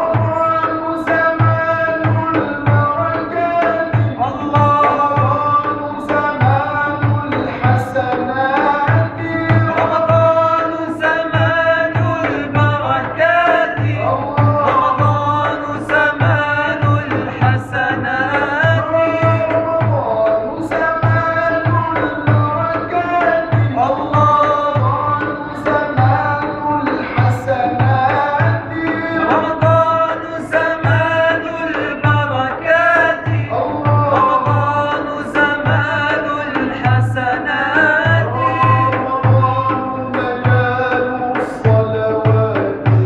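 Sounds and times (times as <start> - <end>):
frame drum beat: 0.0 - 43.0
men singing a devotional chant: 0.0 - 43.0.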